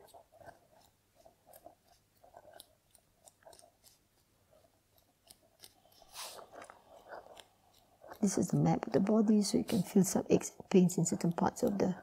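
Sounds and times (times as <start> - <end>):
hands rustling while massaging toes: 0.0 - 12.0.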